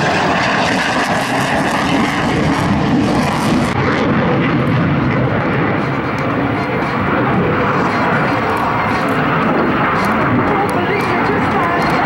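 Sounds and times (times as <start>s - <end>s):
fighter jet afterburner roar: 0.0s - 12.0s.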